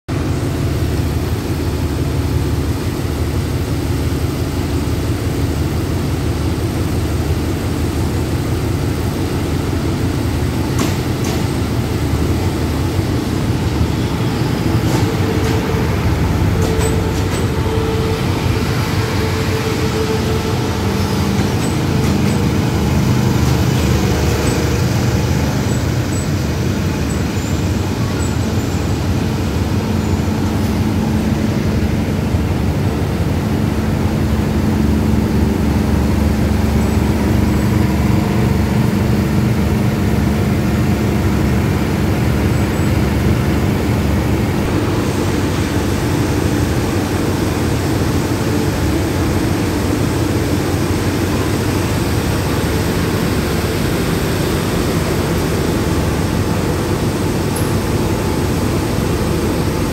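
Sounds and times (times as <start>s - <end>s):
train wheels rumbling: 0.1s - 59.9s.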